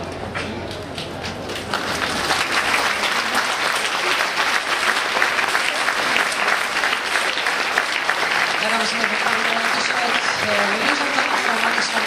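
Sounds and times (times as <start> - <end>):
crowd applauding: 0.7 - 12.0.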